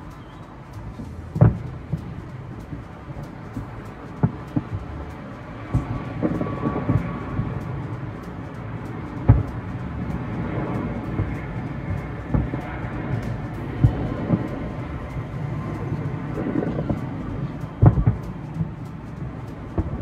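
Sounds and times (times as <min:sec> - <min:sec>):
distant fireworks booming: 0:00.0 - 0:20.0.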